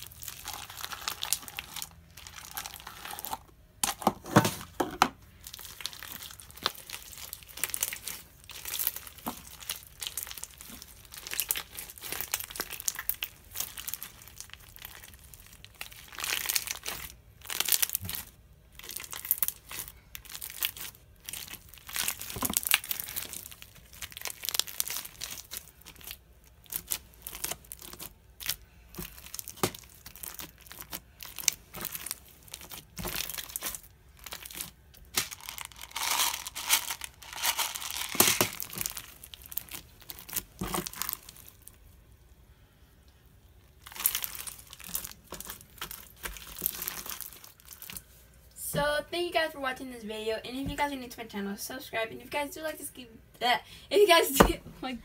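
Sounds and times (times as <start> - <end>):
slime squishing: 0.0 - 3.9, 4.6 - 42.0, 43.2 - 48.5.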